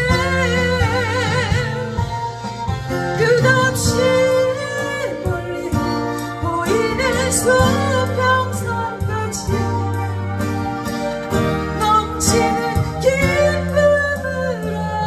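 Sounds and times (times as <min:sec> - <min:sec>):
woman singing a ballad: 0:00.0 - 0:10.2, 0:11.6 - 0:15.0
strummed acoustic guitar: 0:00.0 - 0:15.0.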